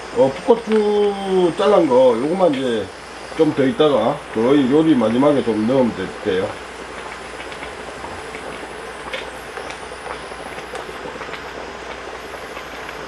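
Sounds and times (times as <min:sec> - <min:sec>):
faint high whine: 0:00.0 - 0:13.0
stew simmering in a pot: 0:00.0 - 0:13.0.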